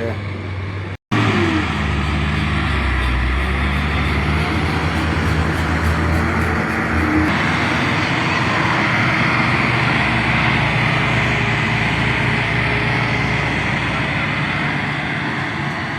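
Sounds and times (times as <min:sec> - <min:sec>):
diesel engine running under load: 0:00.0 - 0:15.9.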